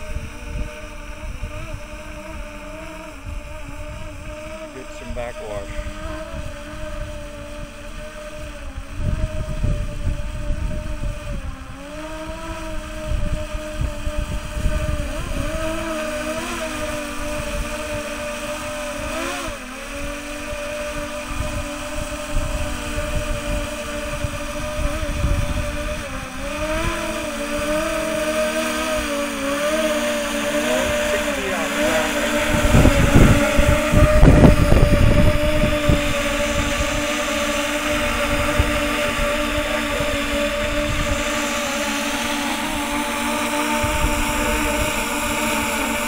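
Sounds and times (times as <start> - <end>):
drone propellers buzzing whine: 0.0 - 46.0
wind buffeting microphone: 0.0 - 46.0.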